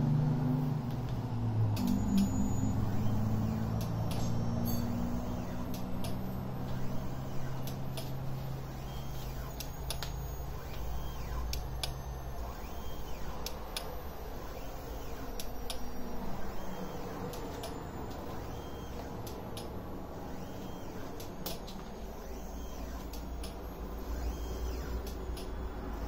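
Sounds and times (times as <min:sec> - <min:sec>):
turntable drive hum: 0:00.0 - 0:26.0.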